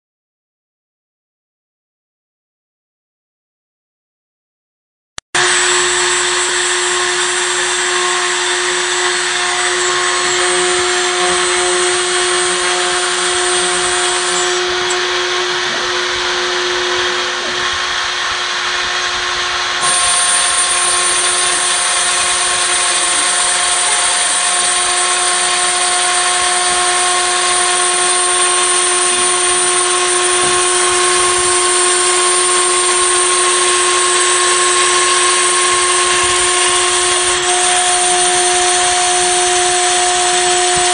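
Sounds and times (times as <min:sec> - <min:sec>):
cnc router spindle whine: 0:05.4 - 0:40.9
end mill cutting acrylic hiss: 0:05.4 - 0:40.9.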